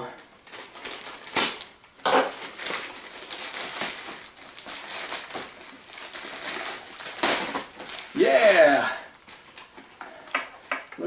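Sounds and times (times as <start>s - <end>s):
plastic mailer bag crinkling: 0.4s - 9.9s
plastic ripping: 0.4s - 9.9s.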